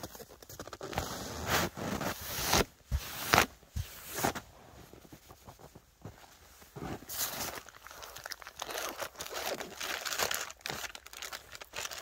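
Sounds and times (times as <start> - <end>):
crunching and rustling handling: 0.0 - 12.0.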